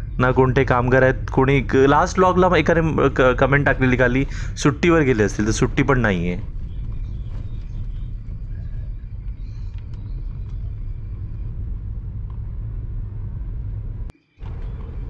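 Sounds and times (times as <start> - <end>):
car engine and tyres from inside: 0.0 - 15.0.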